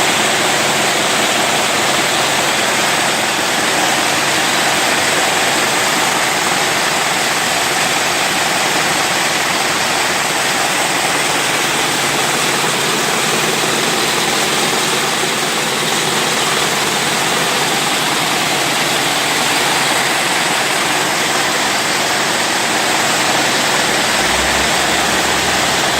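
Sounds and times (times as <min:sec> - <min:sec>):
braiding machine running: 0:00.0 - 0:25.9.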